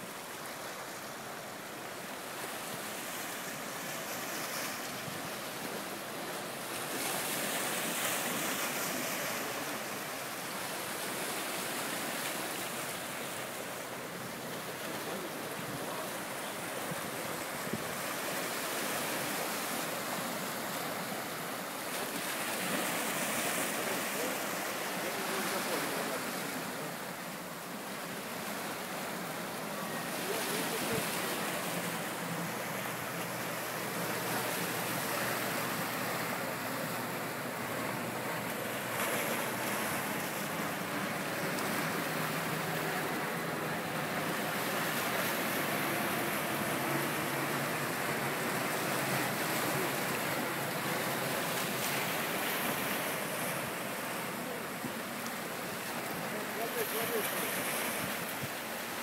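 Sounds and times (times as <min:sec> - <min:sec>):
surf breaking over rocks: 0:02.5 - 0:59.0.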